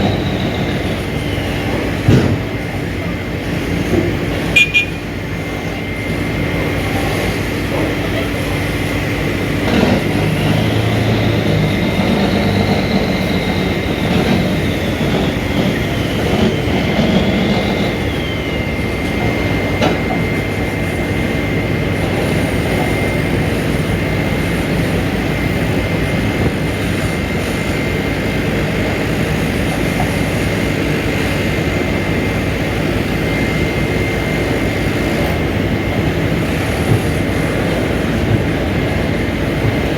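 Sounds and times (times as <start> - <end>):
constant high-pitched whine: 0.0 - 39.9
diesel machinery running: 0.0 - 39.9.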